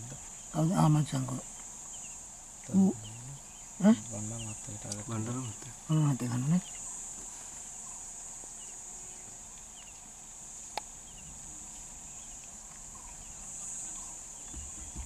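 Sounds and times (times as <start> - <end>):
high-pitched insect drone: 0.0 - 7.2, 7.8 - 15.0
faint bird chirps: 0.0 - 10.1, 10.8 - 15.0.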